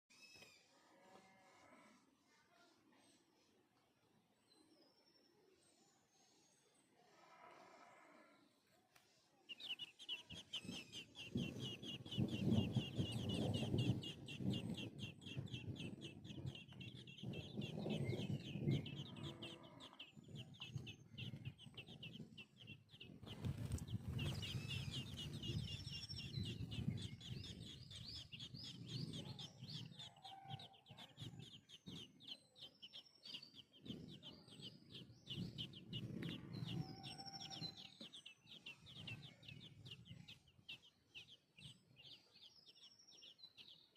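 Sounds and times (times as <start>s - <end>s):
birds chirping: 2.9s - 43.9s.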